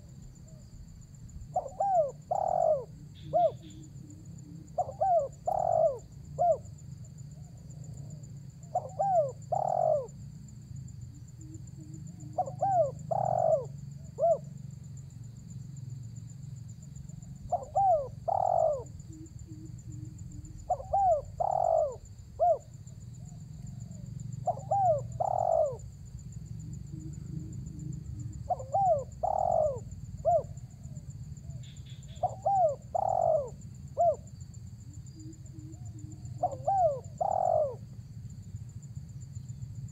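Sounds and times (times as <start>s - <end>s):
dove cooing: 0.0s - 6.7s, 7.4s - 10.2s, 11.4s - 14.5s, 17.0s - 26.0s, 26.6s - 34.4s, 35.1s - 37.9s.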